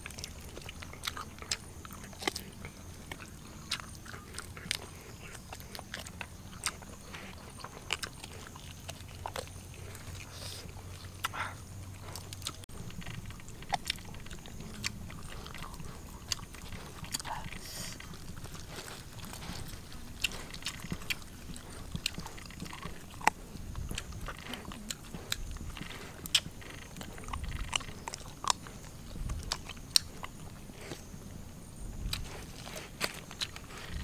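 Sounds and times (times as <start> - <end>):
person chewing meat: 0.0 - 34.0.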